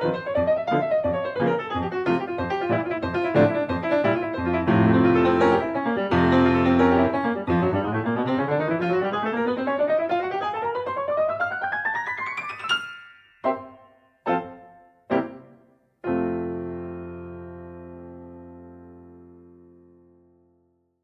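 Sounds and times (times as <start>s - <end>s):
piano music: 0.0s - 20.3s.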